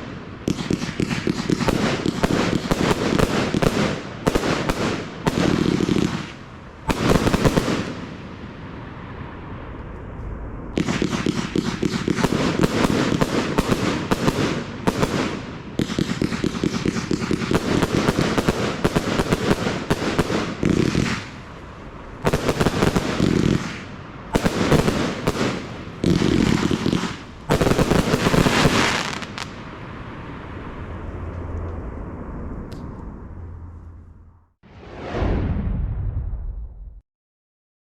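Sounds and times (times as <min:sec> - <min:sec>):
firework crackling bangs: 0:00.0 - 0:31.5.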